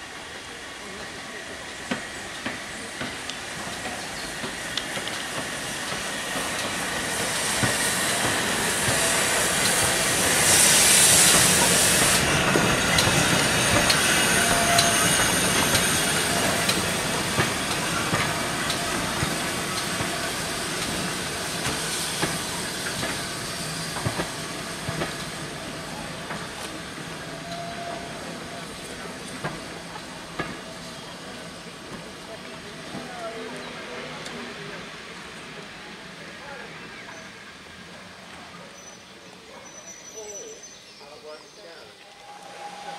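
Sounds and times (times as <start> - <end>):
steam hissing: 0.0 - 39.0, 41.8 - 42.9
steam locomotive passing: 0.0 - 42.9.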